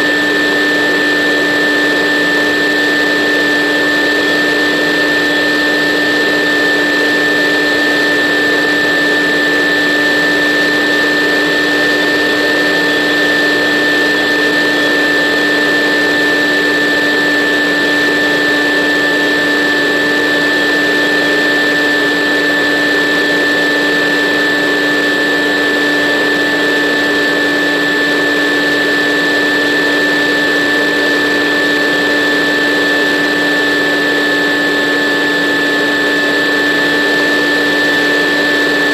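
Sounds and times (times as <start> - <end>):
model airplane motor whine: 0.0 - 38.9.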